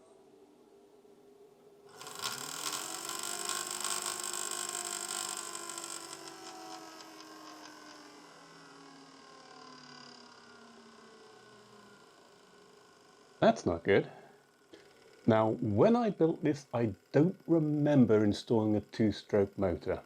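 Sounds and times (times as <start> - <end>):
computer fans whining and rattling: 1.9 - 20.0.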